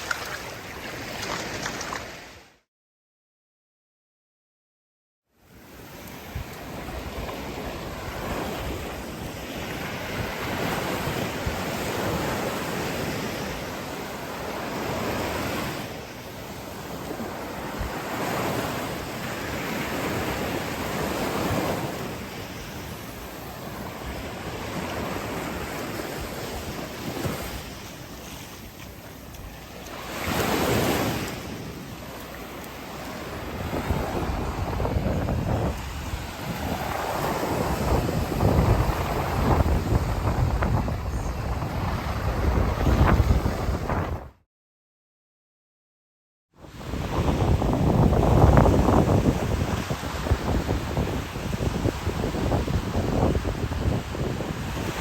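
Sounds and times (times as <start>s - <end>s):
waves washing onto shore: 0.0s - 2.5s, 5.5s - 44.1s, 46.6s - 55.0s
wind rumbling on microphone: 5.7s - 32.0s, 32.6s - 44.4s, 46.7s - 55.0s.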